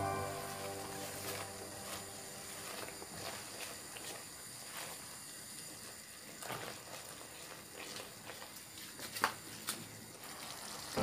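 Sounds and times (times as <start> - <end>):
thick sauce bubbling: 1.3 - 11.0.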